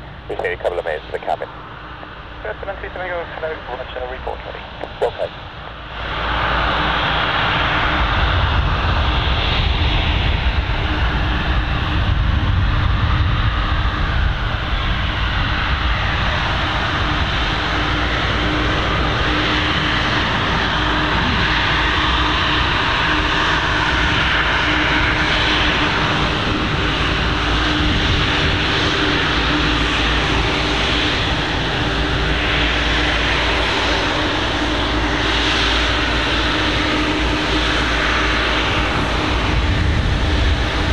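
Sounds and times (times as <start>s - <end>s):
jet engines at taxi power: 0.0s - 40.9s.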